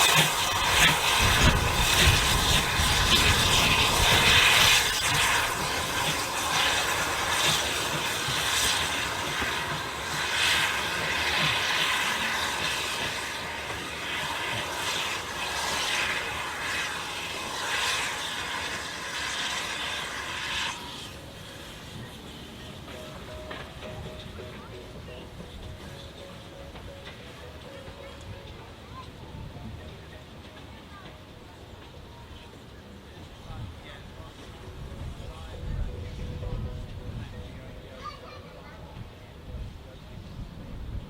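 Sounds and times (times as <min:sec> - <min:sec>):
train passing: 0:00.0 - 0:41.0.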